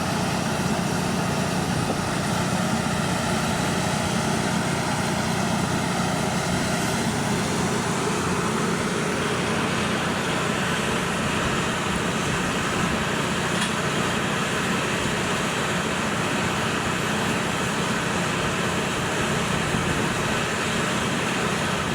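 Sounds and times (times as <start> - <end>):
drilling rig and air compressor running: 0.0 - 21.9.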